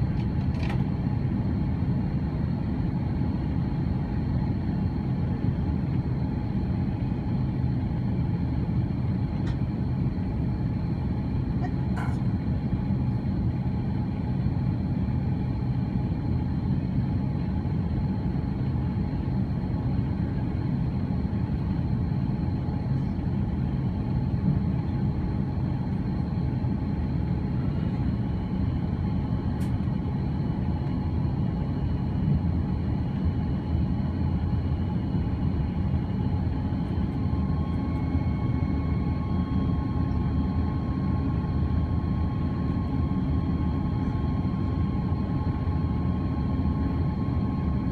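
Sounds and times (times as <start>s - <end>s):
airplane cabin engine rumble: 0.0s - 47.9s
faint steady whining tones: 0.1s - 47.9s.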